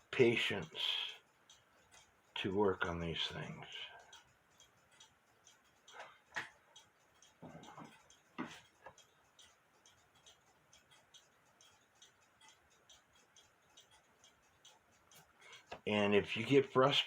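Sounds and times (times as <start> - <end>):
mechanical clock ticking: 0.0 - 17.0.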